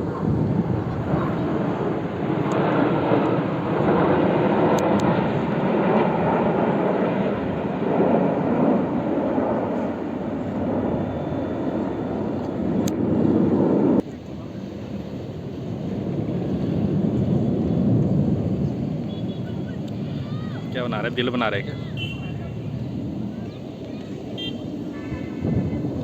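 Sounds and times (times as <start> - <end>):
jet aircraft passing overhead: 0.0 - 26.0.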